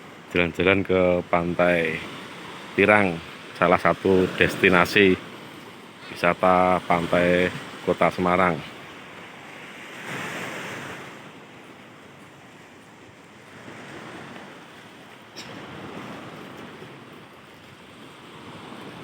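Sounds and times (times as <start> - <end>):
sea surf breaking on beach: 0.0 - 19.0.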